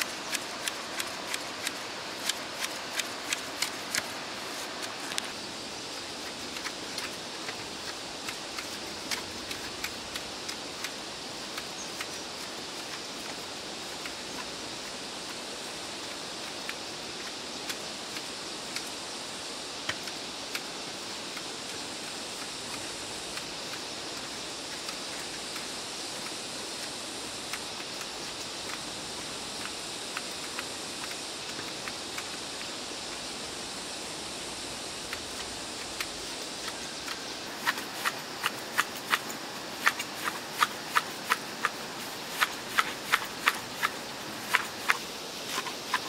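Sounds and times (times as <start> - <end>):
sharp ticks and snaps: 0.0 - 46.0
steady outdoor hiss: 0.0 - 46.0.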